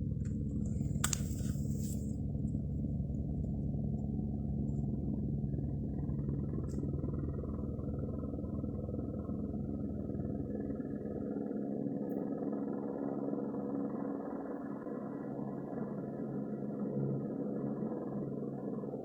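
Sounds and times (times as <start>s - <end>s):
electronic engine-like drone: 1.7s - 19.0s.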